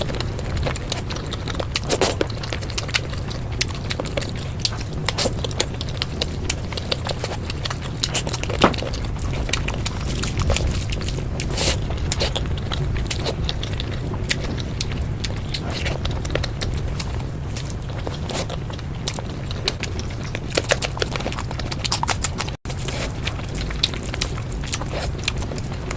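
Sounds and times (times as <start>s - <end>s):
low background hum: 0.0s - 25.9s
wet mouth clicks and chewing: 0.0s - 25.9s.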